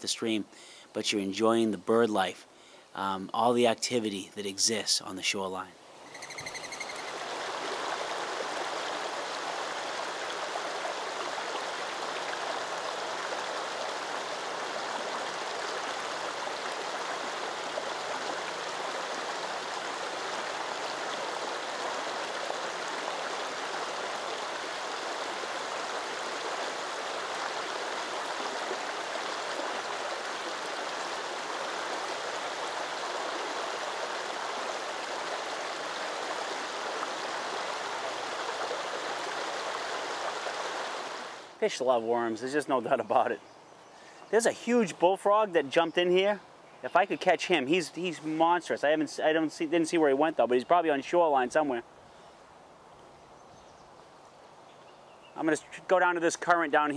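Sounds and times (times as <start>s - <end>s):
brook water rushing: 0.0s - 53.2s.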